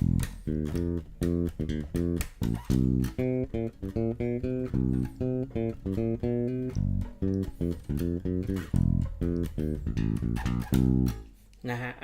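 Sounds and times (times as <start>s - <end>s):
electric bass guitar notes: 0.0s - 11.3s.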